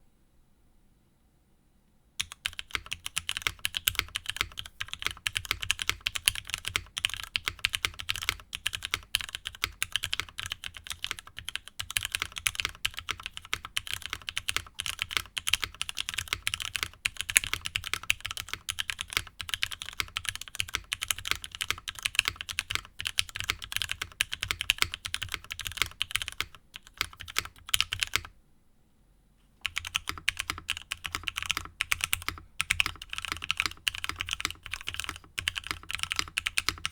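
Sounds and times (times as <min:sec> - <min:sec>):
fast mechanical keyboard typing: 0:02.2 - 0:28.3, 0:29.6 - 0:36.9.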